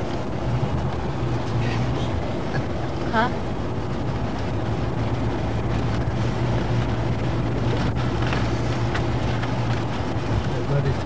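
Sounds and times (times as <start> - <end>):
vehicle engine drone: 0.0 - 11.0.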